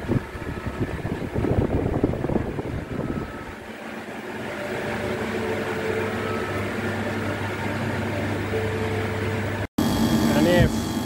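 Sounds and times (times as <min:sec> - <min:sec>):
air conditioner blower hiss: 0:00.0 - 0:11.0.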